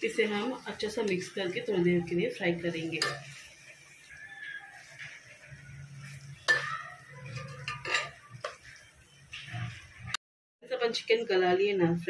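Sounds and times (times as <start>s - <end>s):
metal spatula scraping a pot: 0.0s - 10.2s.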